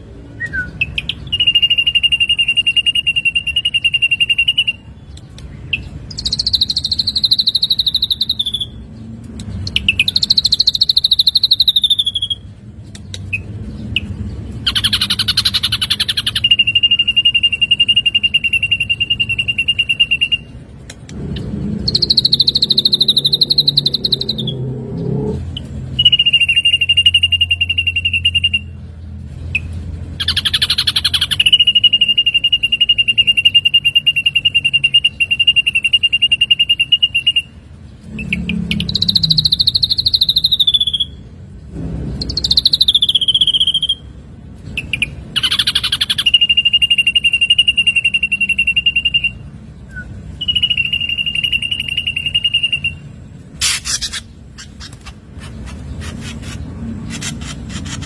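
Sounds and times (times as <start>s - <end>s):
bird singing rapid trills: 0.0s - 58.0s.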